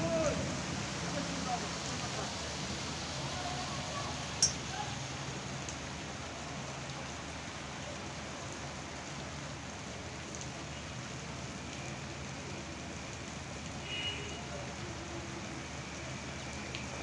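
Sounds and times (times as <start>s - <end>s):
heavy rain on roofs and street: 0.0s - 17.0s.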